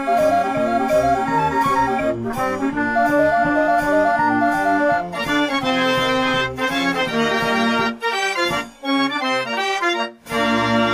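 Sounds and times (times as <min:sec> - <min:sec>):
instrumental background music: 0:00.0 - 0:10.9.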